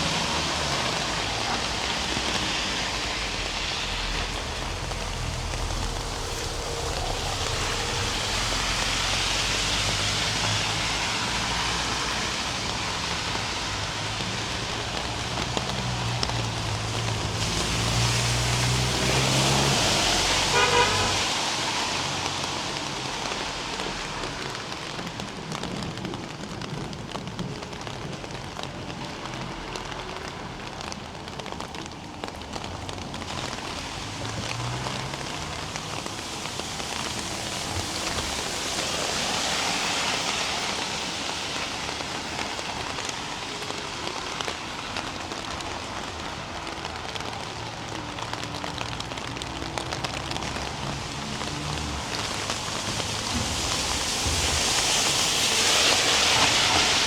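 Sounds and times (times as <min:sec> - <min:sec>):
rain hissing on the ground: 0:00.0 - 0:57.0.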